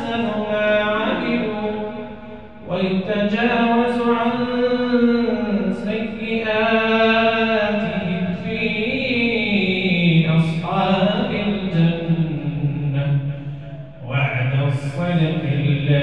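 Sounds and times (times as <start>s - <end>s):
man chanting melodic recitation: 0.0s - 16.0s.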